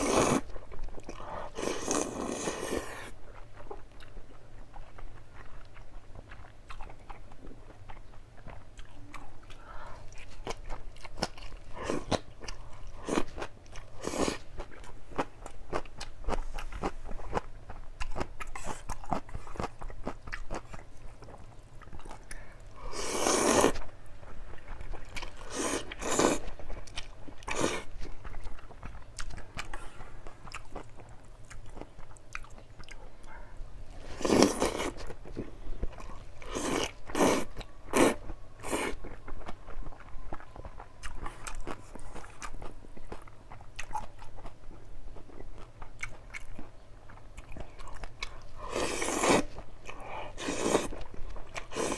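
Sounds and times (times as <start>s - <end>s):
chewing and biting food: 0.0s - 51.9s.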